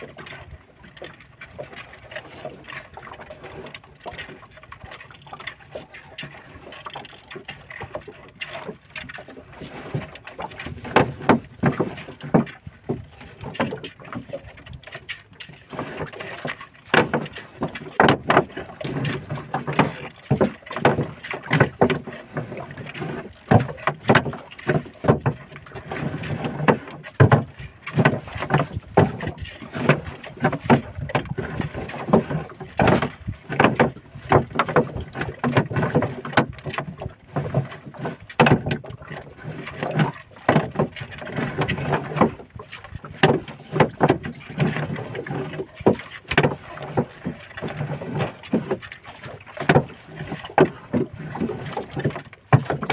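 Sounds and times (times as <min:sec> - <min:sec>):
traps knocking against boat: 0:00.0 - 0:52.9
water splashing and streaming: 0:00.0 - 0:52.9.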